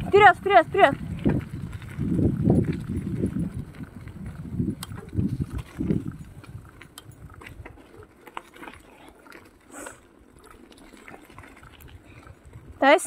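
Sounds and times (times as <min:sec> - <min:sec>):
bicycle clicks and rattles: 0:00.0 - 0:13.0
bicycle tyres crunching on gravel: 0:00.0 - 0:13.0.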